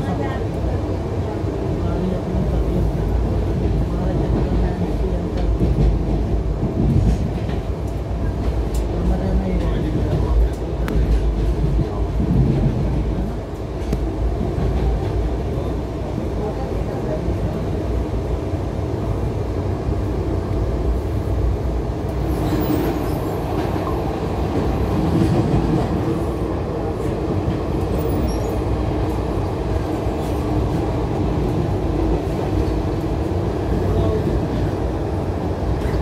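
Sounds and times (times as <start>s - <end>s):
train carriage rumble: 0.0s - 36.0s.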